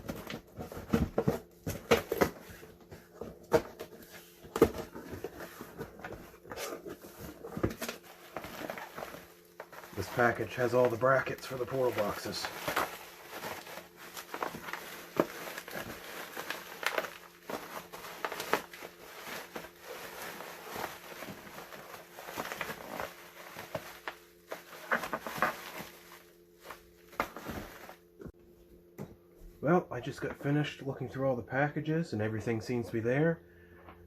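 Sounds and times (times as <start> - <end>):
packaging rustling: 0.0 - 28.1
faint steady hum: 0.0 - 34.0.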